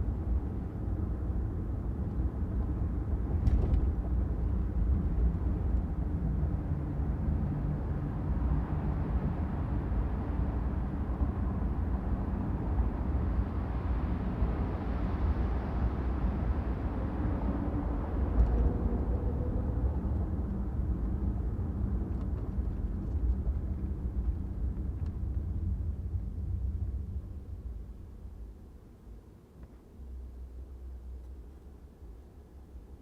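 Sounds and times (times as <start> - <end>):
car driving on street: 0.0 - 33.0
traffic noise: 0.0 - 33.0.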